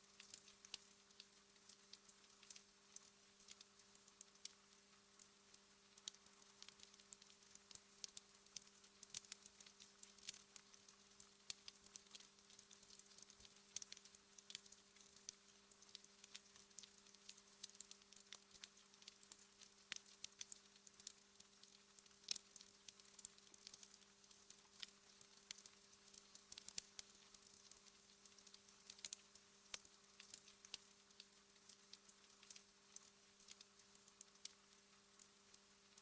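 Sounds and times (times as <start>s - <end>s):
wood fire crackling and popping: 0.2s - 36.0s.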